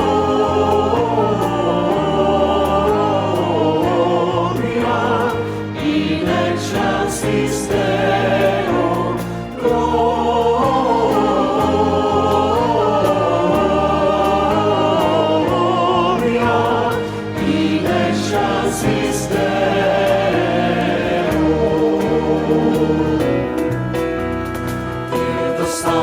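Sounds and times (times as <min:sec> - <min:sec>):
church choir singing: 0:00.0 - 0:26.0
sustained low accompaniment: 0:00.0 - 0:26.0.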